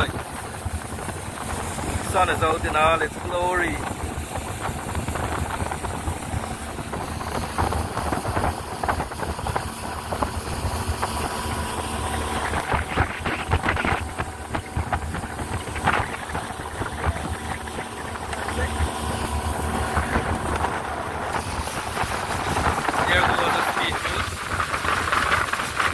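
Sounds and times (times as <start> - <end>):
boat engine running: 0.0 - 25.9
hull knocking on waves: 0.0 - 25.9
wind and water rushing: 0.0 - 25.9.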